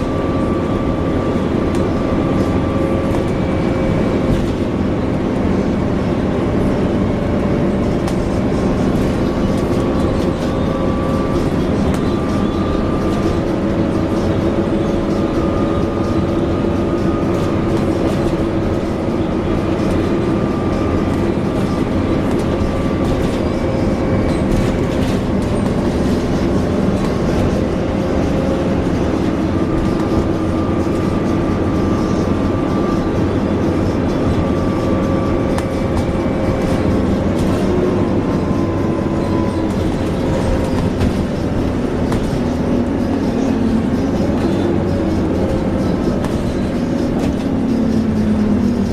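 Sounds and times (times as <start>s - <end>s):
bus drivetrain whining: 0.0s - 48.9s.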